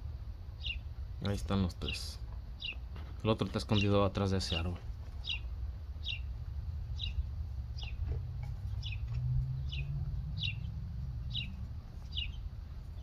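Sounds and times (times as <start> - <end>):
bird chirping: 0.5 - 13.0.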